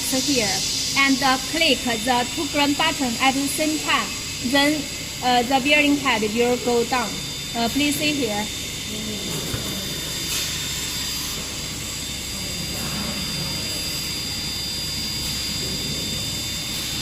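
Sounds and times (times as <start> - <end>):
welding machine hum and hiss: 0.0 - 17.0.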